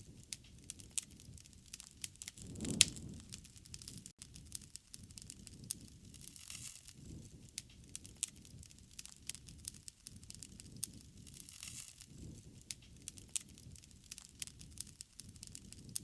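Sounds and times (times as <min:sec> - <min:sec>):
low rumble of flames: 0:00.0 - 0:16.0
wood fire crackling: 0:00.0 - 0:16.0
sharp pops and snaps: 0:00.2 - 0:16.0.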